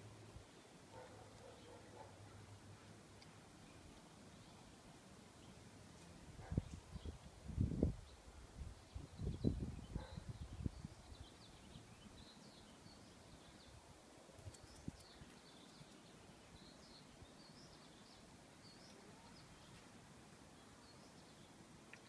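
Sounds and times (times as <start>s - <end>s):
small birds chirping faintly: 0.0s - 22.0s.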